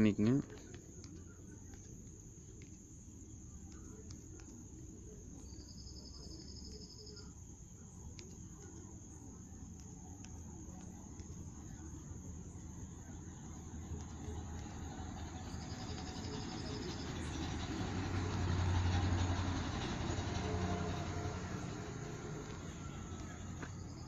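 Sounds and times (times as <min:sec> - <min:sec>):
insect-like trill: 0:00.0 - 0:24.0
low hum: 0:00.0 - 0:24.0
faint clicks: 0:00.2 - 0:24.0.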